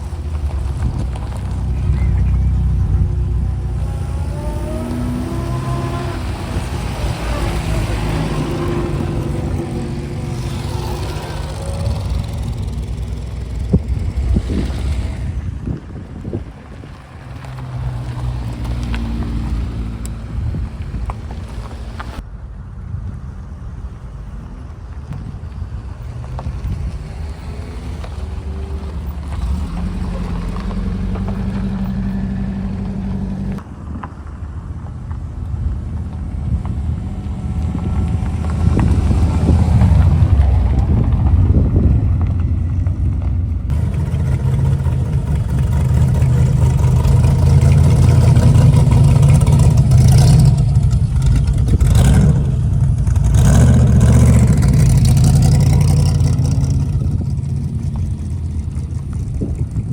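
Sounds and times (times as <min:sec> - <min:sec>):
vehicle engines revving: 0:00.0 - 0:22.3, 0:23.2 - 0:59.9.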